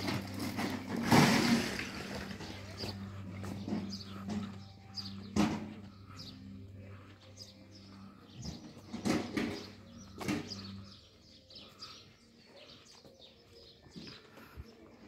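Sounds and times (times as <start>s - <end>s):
small birds chirping: 2.1s - 15.0s.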